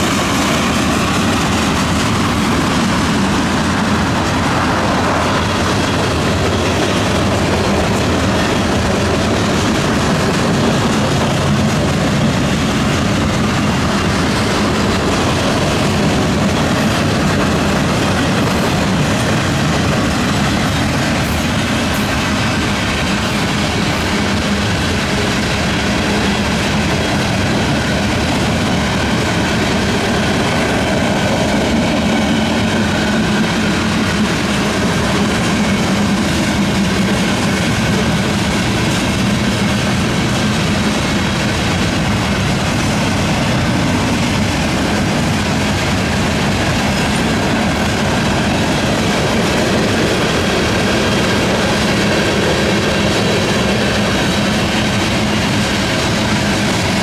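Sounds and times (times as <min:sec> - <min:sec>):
freight train rumbling and rattling: 0:00.0 - 0:57.0.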